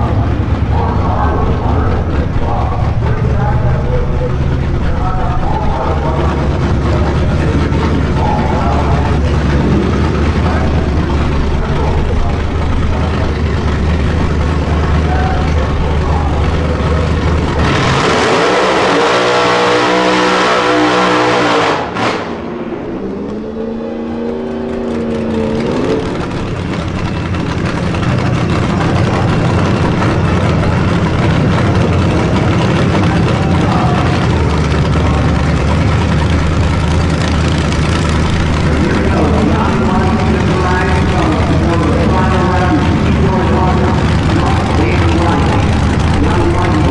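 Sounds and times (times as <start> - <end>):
engine idle rumble: 0.0 - 20.1, 21.9 - 46.9
engine revving with tyres spinning: 0.0 - 46.9.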